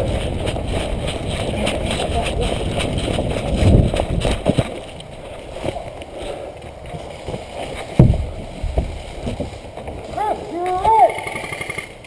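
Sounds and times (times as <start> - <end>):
footsteps in woods: 0.0 - 12.0
gear rustling: 0.0 - 12.0.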